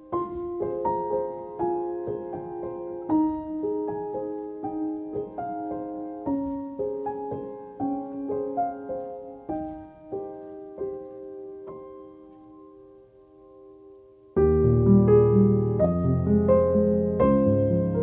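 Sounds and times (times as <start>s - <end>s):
slow solo piano melody: 0.0s - 18.0s.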